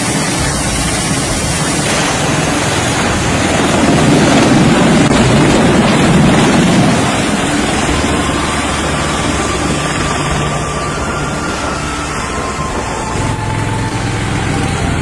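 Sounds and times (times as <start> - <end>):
aircraft rotor and engine roar: 0.0 - 15.0
wind buffeting microphone: 0.0 - 15.0.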